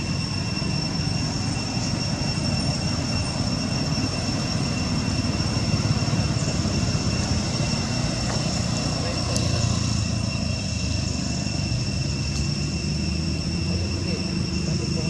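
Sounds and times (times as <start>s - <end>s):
thin high-pitched whine: 0.0s - 15.0s.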